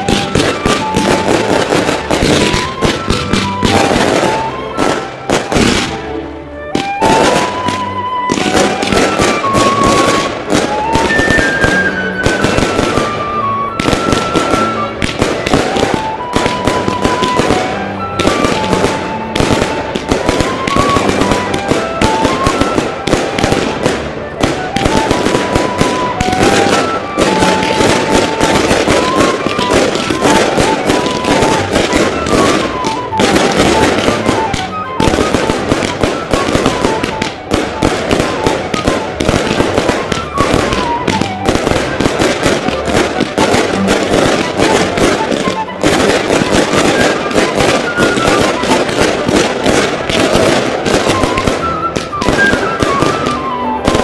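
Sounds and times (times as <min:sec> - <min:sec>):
fireworks banging and crackling: 0:00.0 - 0:54.0
melody playing: 0:00.0 - 0:54.0.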